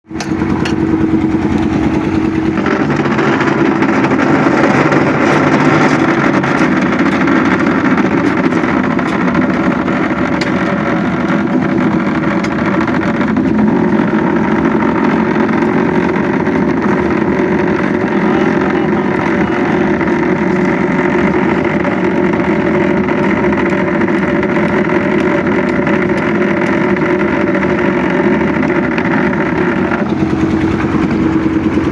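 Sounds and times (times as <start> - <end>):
machinery engine running: 0.0 - 31.9.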